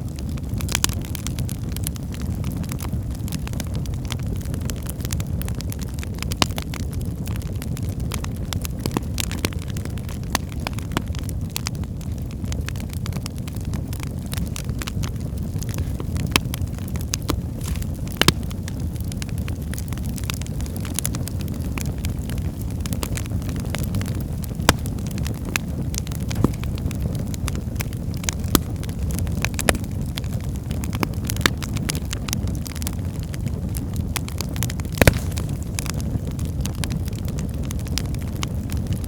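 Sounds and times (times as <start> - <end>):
burning logs popping: 0.0 - 39.0
fire crackling: 0.0 - 39.0
fire flames rushing: 0.0 - 39.0.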